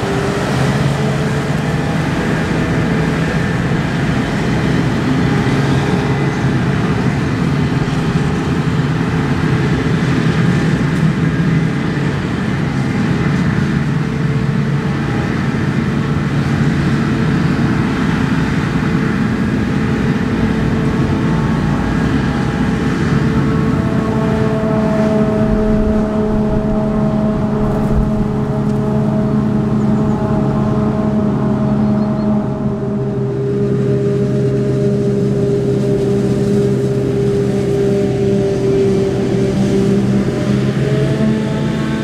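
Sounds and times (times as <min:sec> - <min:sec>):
heavy farm machinery humming: 0:00.0 - 0:42.0.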